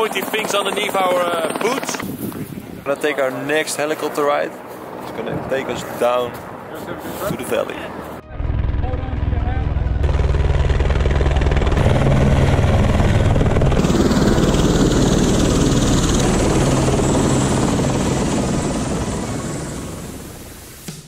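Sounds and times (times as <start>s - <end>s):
helicopter rotor whir: 0.0s - 20.8s.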